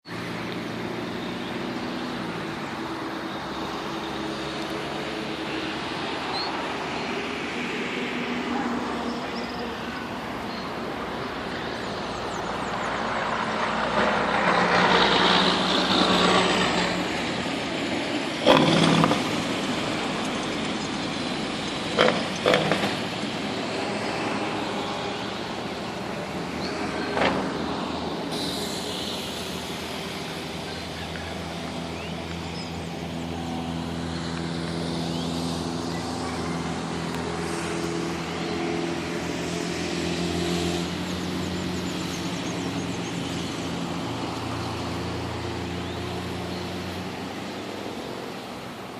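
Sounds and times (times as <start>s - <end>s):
steady engine hum: 0.0s - 48.9s
vehicles passing: 0.0s - 48.9s.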